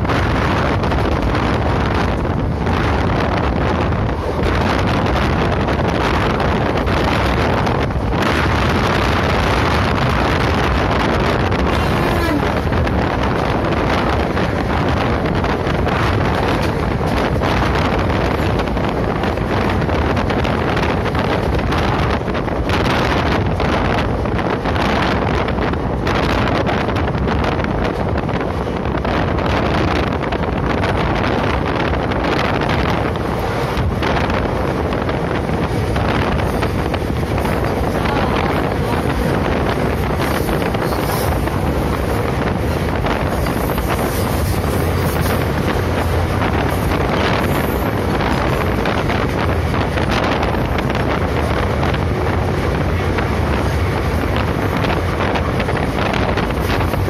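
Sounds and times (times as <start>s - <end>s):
train running rumble: 0.0s - 57.0s
wind on microphone: 0.0s - 57.0s.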